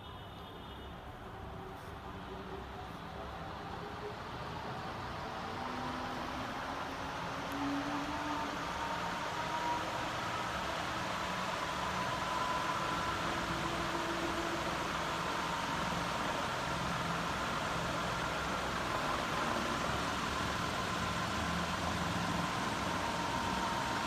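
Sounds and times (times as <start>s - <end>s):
ceiling fan whooshing: 2.2s - 24.0s.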